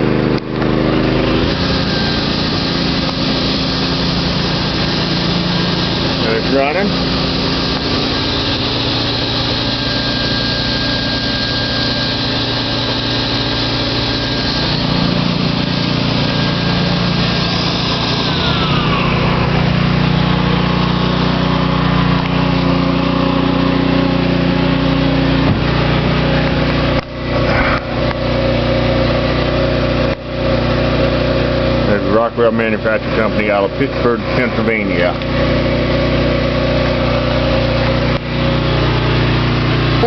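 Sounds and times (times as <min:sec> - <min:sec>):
electric saw motor whining: 0:00.0 - 0:40.0.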